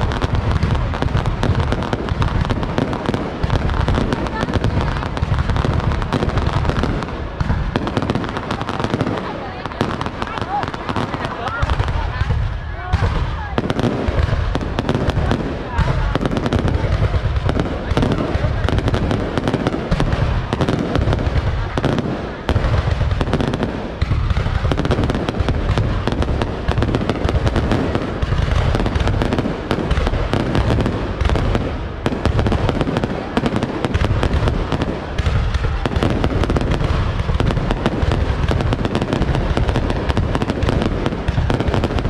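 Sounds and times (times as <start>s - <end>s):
fireworks bangs and booms: 0.0s - 42.0s
people's voices: 0.0s - 42.0s.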